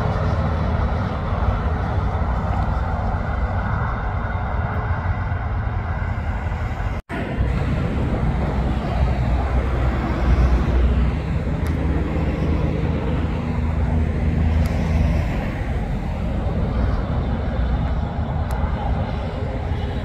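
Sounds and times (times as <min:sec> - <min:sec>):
truck diesel engine hum: 0:00.0 - 0:20.0
tyre and road noise: 0:00.0 - 0:20.0.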